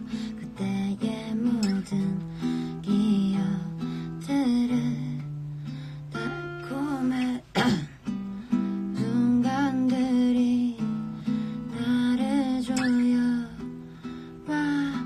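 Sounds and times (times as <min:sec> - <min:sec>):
acoustic guitar music: 0:00.0 - 0:15.0
person singing slow melody: 0:00.0 - 0:15.0.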